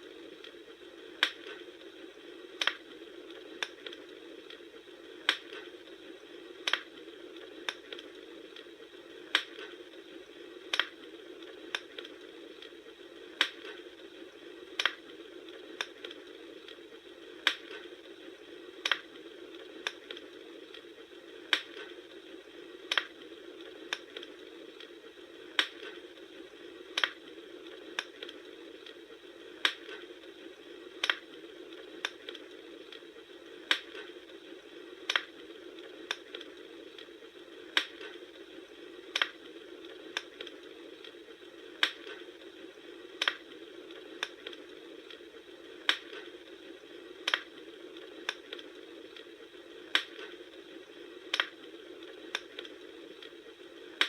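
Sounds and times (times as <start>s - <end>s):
campfire crackling hiss: 0.0s - 54.0s
fire popping: 0.0s - 54.0s.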